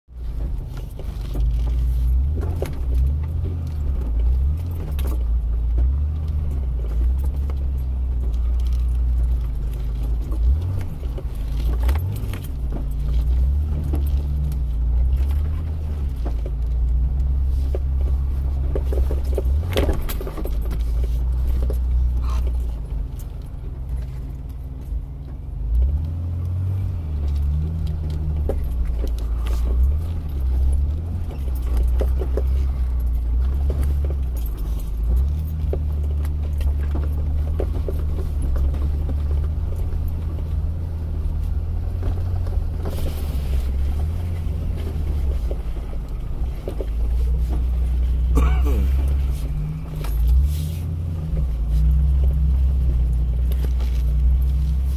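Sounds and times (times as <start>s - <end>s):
engine and road drone: 0.1s - 54.9s
rattling and jingling: 0.4s - 25.2s, 27.1s - 54.9s.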